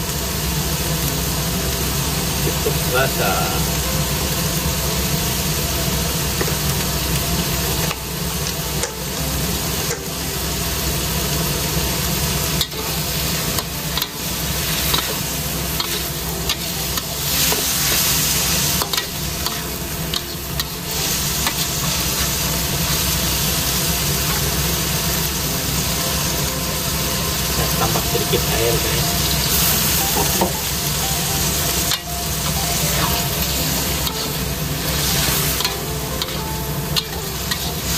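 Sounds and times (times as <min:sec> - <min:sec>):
sauce sizzling: 0:00.0 - 0:37.9.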